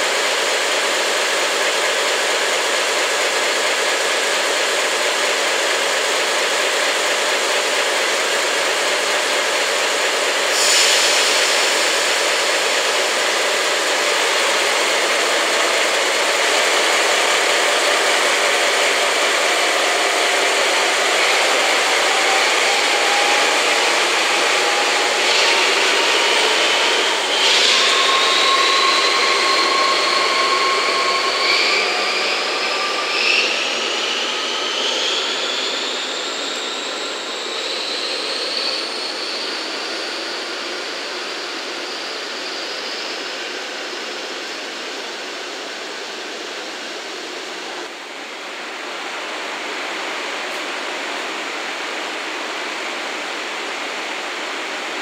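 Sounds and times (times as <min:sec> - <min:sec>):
diesel locomotive engine growling: 0:00.0 - 0:55.0
rising whine: 0:02.8 - 0:52.2.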